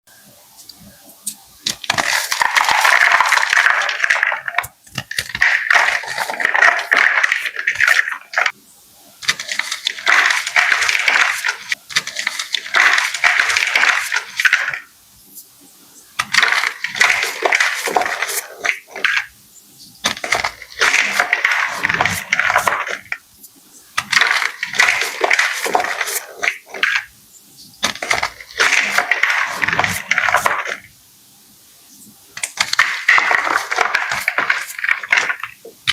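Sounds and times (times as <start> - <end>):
chalk blocks crunching: 0.6 - 8.6, 9.2 - 14.9, 16.0 - 30.9, 32.0 - 35.9.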